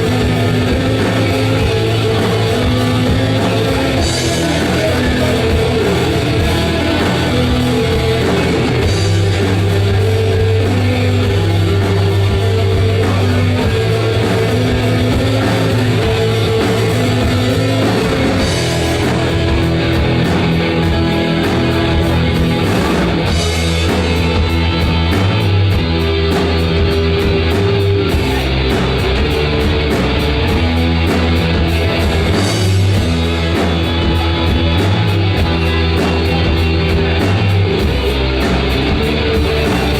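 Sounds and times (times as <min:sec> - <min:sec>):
loud rock music: 0:00.0 - 0:39.9.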